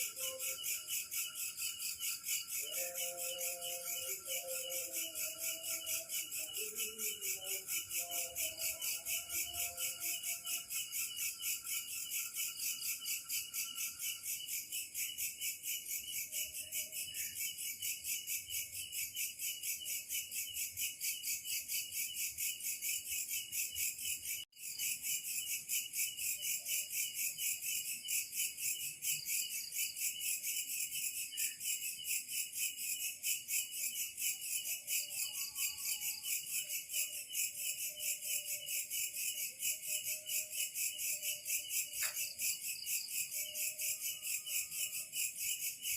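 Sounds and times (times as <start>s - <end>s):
chirping insects: 0.0s - 45.9s.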